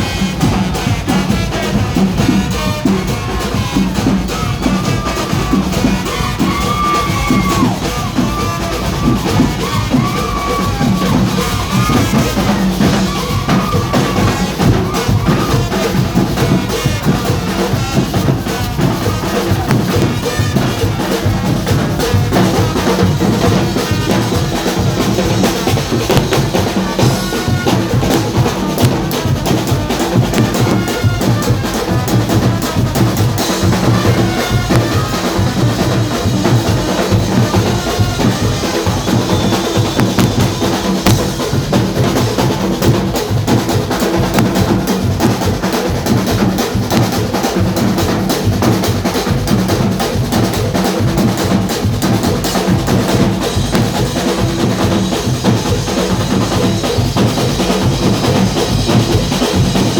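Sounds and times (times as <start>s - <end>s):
dense steady drumming: 0.0s - 59.9s
heavy bass drum: 0.0s - 59.9s.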